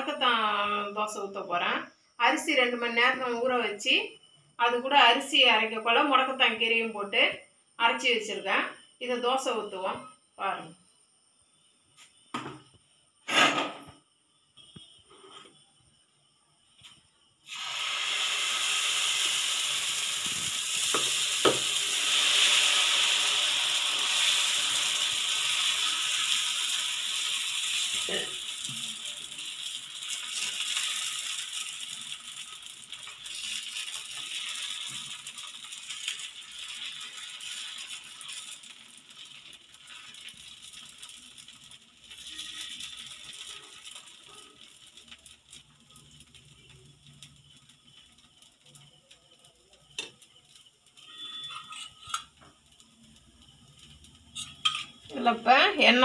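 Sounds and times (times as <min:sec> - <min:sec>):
batter sizzling on hot pan: 0:11.0 - 0:56.0.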